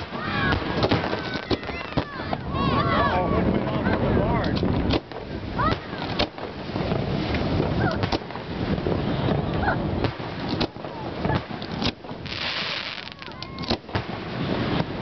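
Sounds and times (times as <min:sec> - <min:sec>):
fireworks bangs and crackles: 0:00.0 - 0:15.0
wind on microphone: 0:00.0 - 0:15.0.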